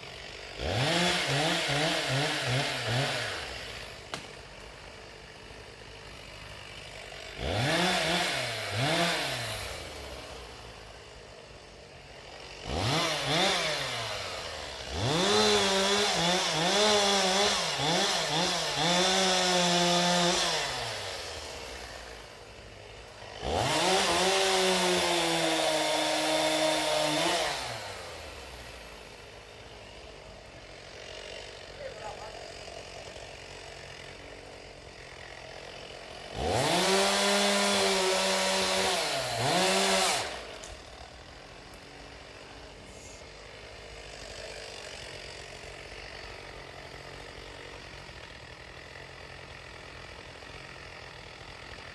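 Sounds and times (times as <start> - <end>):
chainsaw revving: 0.0 - 51.9.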